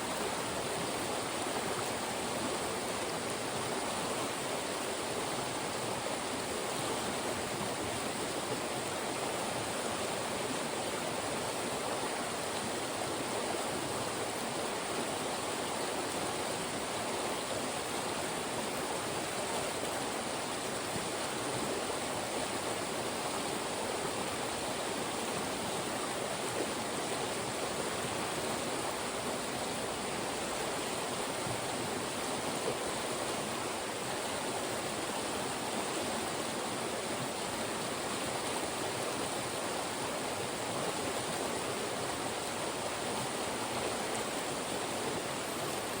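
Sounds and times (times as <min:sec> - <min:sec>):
mountain stream rushing over rocks: 0:00.0 - 0:46.0.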